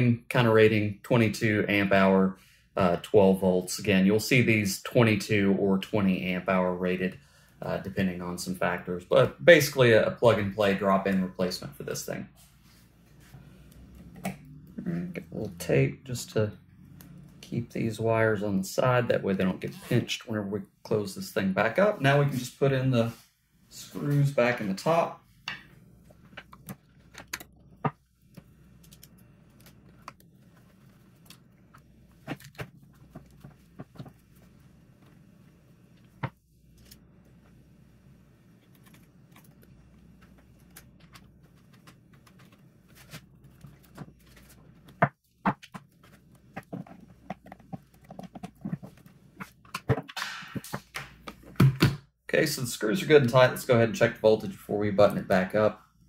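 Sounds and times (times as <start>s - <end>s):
faint steady hum: 0.0s - 45.1s.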